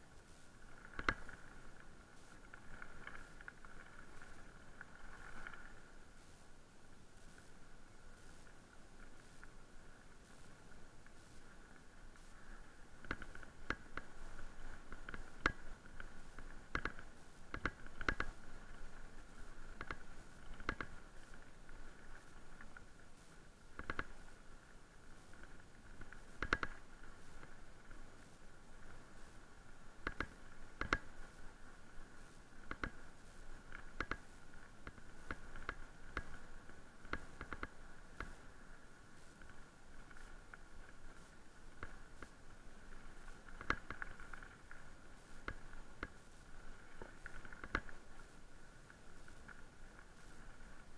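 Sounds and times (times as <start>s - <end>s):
bike rattling on gravel: 0.1s - 50.9s.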